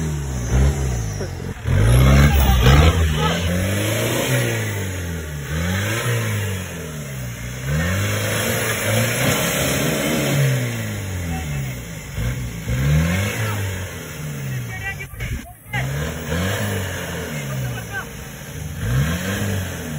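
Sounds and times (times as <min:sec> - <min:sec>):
off-road vehicle engine revving: 0:00.0 - 0:19.9.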